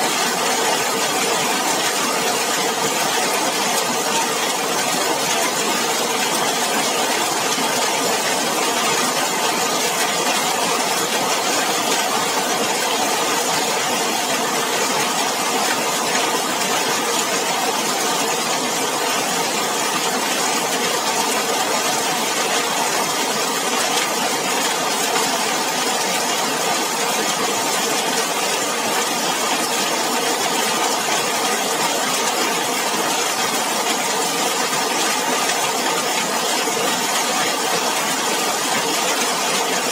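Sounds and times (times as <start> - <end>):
heavy rain on a metal roof: 0.0 - 39.9
rain splashing on pavement: 0.1 - 39.9.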